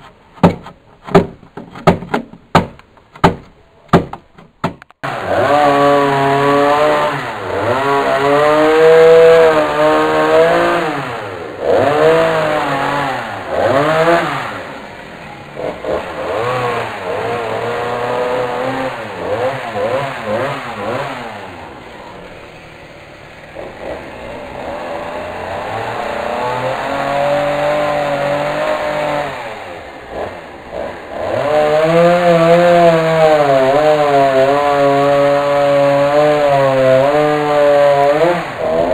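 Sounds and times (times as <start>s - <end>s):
engine revving: 5.0s - 38.9s.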